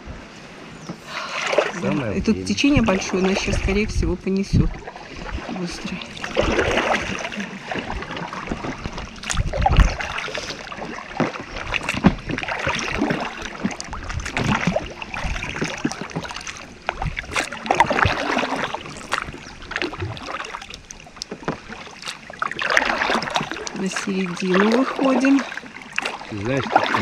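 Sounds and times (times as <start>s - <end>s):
paddles splashing in water: 0.0s - 27.0s
water rushing past: 0.0s - 27.0s.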